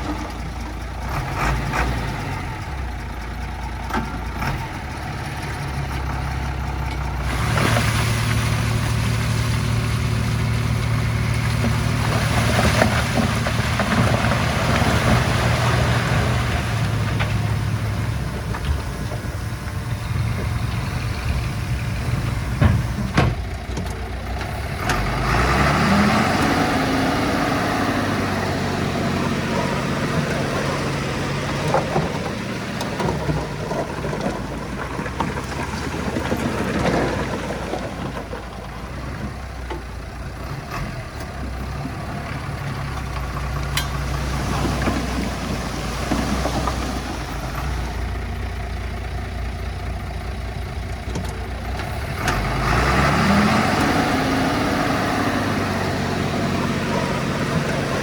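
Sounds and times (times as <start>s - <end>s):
clatter of stone and soil: 0.0s - 58.0s
diesel bulldozer engine: 0.0s - 58.0s.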